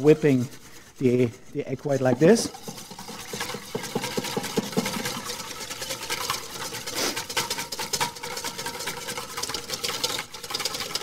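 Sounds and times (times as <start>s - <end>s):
whisk beating in metal bowl: 0.0s - 11.0s.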